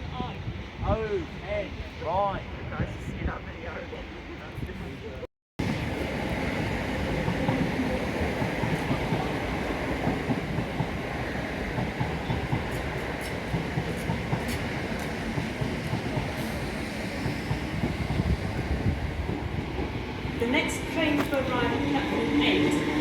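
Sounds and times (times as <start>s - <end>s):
train rumbling past on rails: 0.3s - 23.0s.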